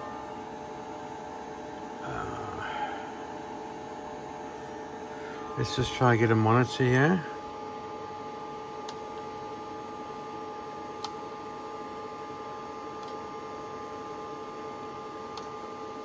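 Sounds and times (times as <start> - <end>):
video equipment hum and whine: 0.0 - 16.0.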